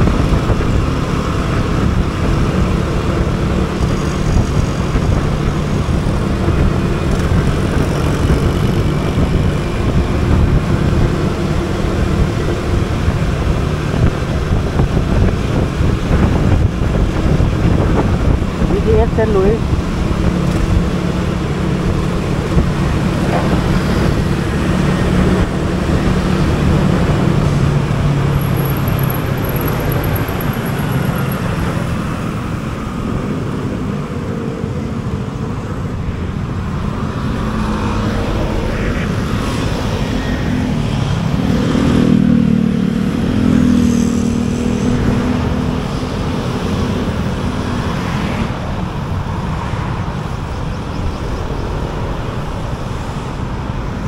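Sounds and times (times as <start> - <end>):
cars and motorbikes passing: 0.0 - 54.0
road noise: 0.0 - 54.0.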